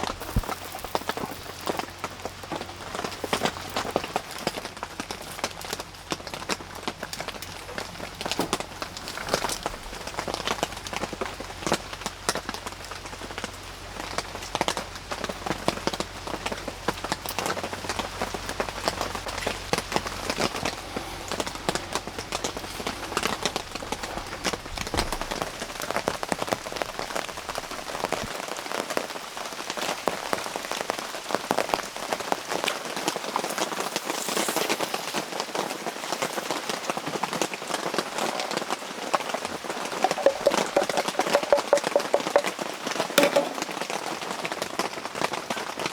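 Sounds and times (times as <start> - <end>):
rain pattering on a surface: 0.0 - 45.9.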